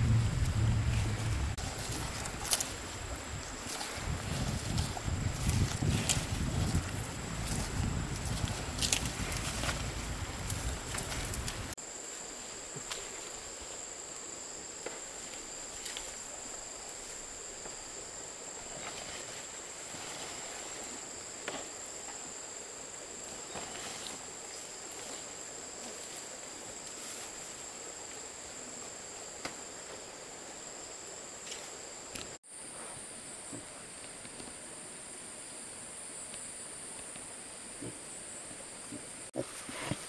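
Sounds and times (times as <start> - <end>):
insects droning high-pitched: 0.0 - 39.3.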